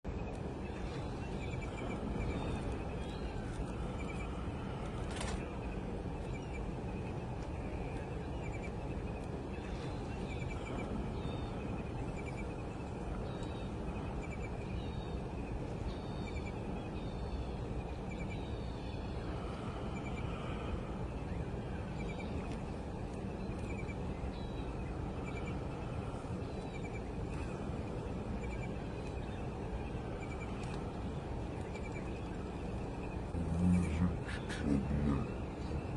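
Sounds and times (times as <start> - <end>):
low background rumble: 0.0 - 35.9
small birds chirping: 0.1 - 35.9.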